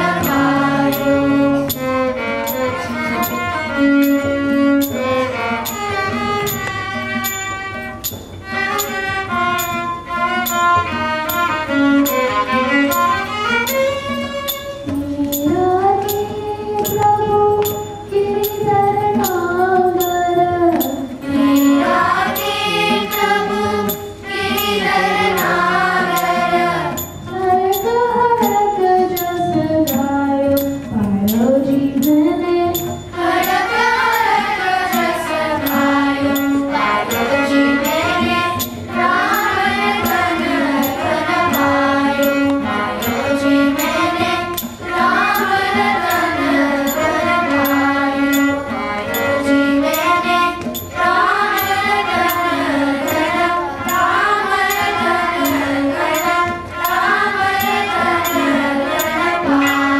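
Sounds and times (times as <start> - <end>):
violins playing melody: 0.0 - 17.1, 20.8 - 28.3, 32.4 - 59.9
tabla: 0.0 - 54.8
children's chorus singing: 0.0 - 59.9
hand cymbals striking: 0.0 - 59.9.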